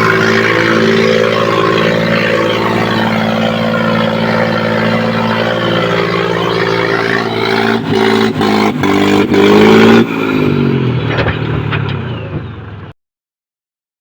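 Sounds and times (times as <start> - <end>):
tractor engine revving: 0.0 - 12.9.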